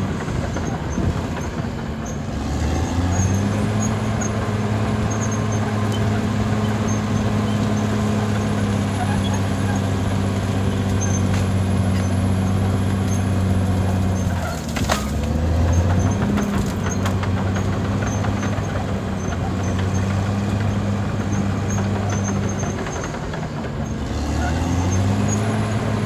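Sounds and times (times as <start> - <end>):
bulldozer diesel engine running: 0.0 - 26.0
clanks and knocks: 0.0 - 26.0.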